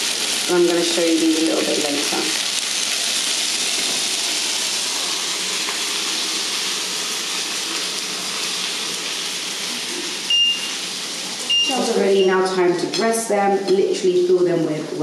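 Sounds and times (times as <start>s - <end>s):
chicken sizzling on grill pan: 0.0s - 12.2s.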